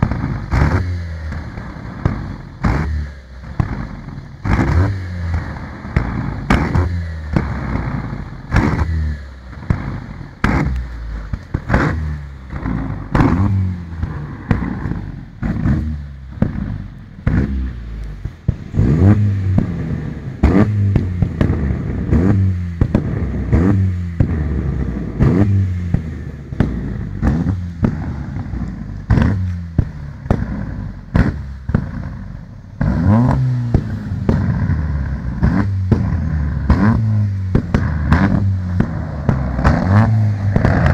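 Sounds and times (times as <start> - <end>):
car engine revving: 0.0 - 40.9
exhaust bangs and crackles: 0.0 - 40.9.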